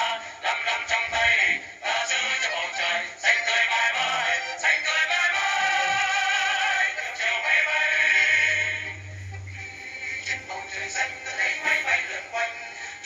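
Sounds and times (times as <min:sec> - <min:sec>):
accompanying music: 0:00.0 - 0:13.0
vocal group singing: 0:00.0 - 0:13.0.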